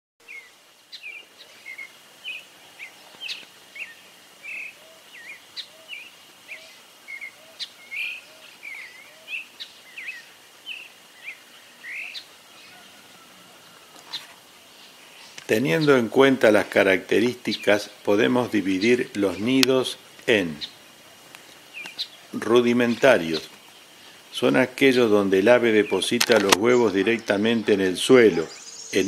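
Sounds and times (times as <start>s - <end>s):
wild birds chirping: 0.2s - 29.0s.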